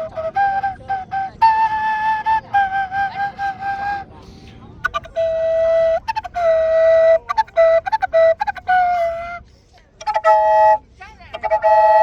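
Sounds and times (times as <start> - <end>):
wooden flute melody: 0.0 - 12.0.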